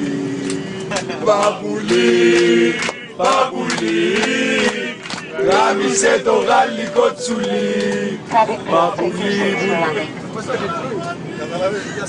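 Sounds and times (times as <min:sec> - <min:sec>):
men chanting a football song: 0:00.0 - 0:10.2.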